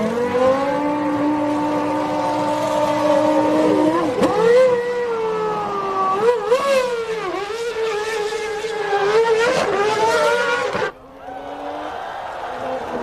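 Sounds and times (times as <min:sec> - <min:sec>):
racing car engines screaming: 0:00.0 - 0:13.0.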